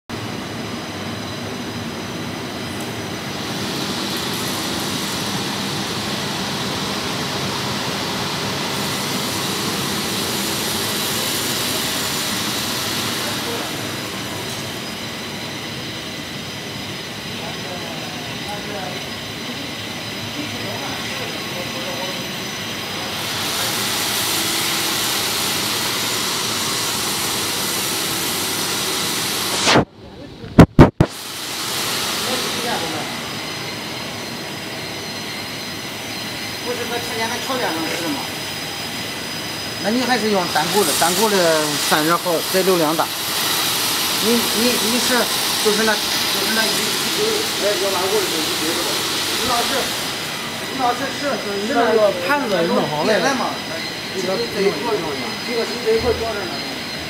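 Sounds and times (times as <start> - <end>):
wire stranding machine running: 0.1 - 29.8, 31.0 - 57.0.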